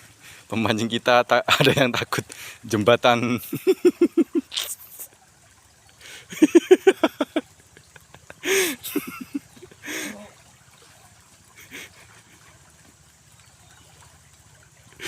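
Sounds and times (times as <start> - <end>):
faint flowing water: 0.0 - 15.0.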